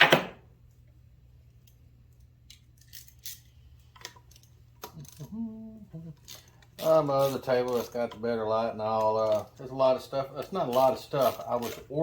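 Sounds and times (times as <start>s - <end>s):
low steady hum: 0.3s - 12.0s.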